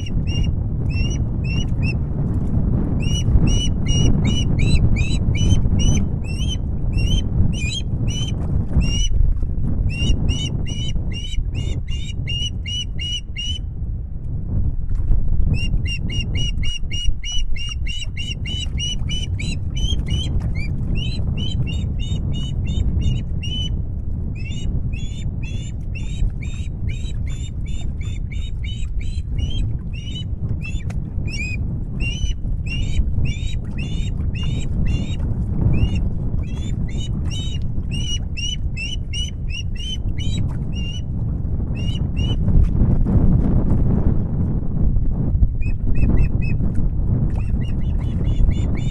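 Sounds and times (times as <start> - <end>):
steady low rumble: 0.0 - 48.9.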